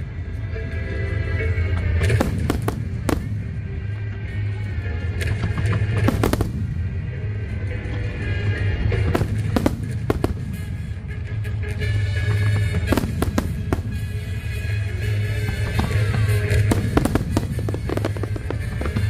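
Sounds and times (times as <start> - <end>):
fireworks bursting with sharp bangs: 1.8 - 4.3, 5.1 - 19.0.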